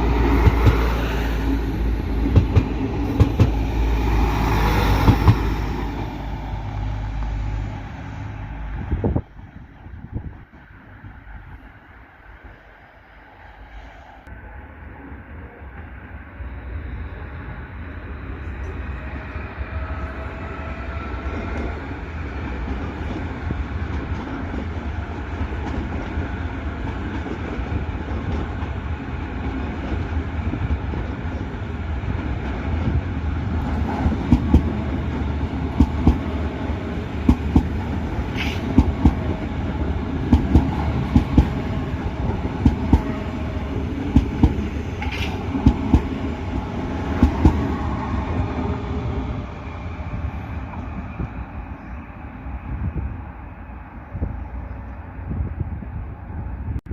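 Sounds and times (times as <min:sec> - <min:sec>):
faint train whine: 0:00.0 - 0:56.8
train running on rails: 0:00.0 - 0:56.9.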